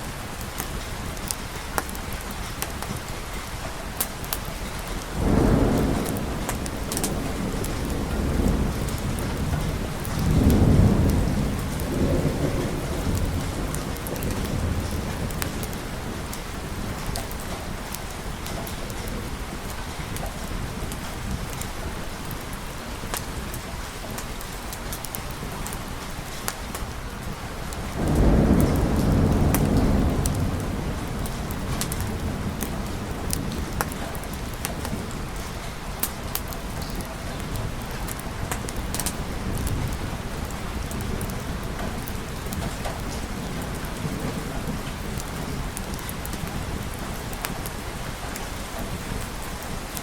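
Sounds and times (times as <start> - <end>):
steady rain: 0.0 - 50.0
rolling thunder: 4.4 - 23.6, 26.8 - 50.0.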